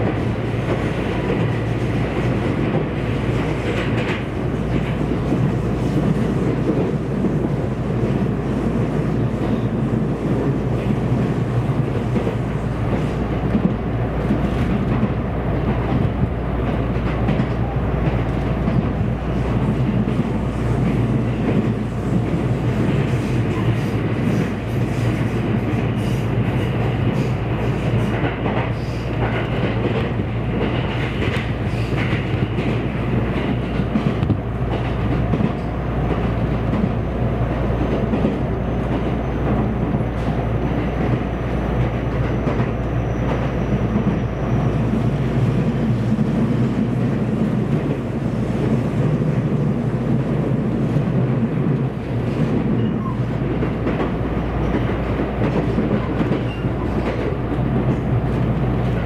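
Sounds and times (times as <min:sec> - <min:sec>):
clickety-clack of rail joints: 0:00.0 - 0:59.0
train interior rumble: 0:00.0 - 0:59.0.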